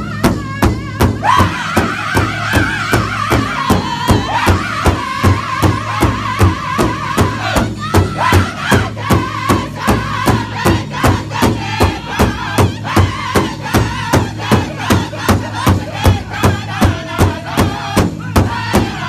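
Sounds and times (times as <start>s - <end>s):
large drum beating: 0.0s - 19.0s
men singing in chorus: 0.0s - 19.0s.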